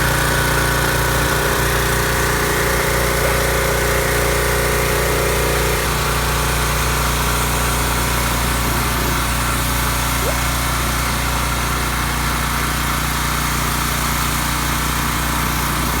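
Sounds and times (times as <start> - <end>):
pressure washer engine running: 0.0 - 16.0.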